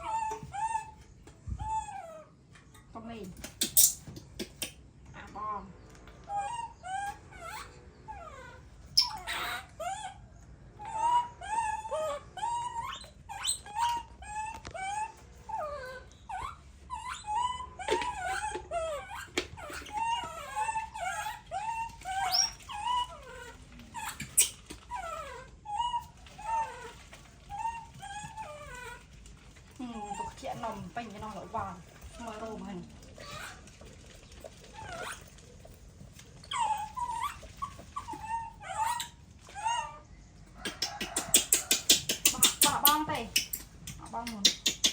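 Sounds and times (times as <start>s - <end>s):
baby monkey crying: 0.0s - 1.0s, 6.3s - 29.2s, 29.8s - 33.7s, 36.5s - 44.9s.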